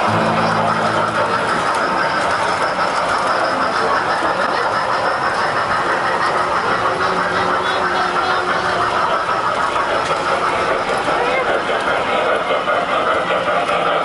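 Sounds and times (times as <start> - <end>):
model train motors humming: 0.0 - 14.0
small wheels clattering on track: 0.0 - 14.0.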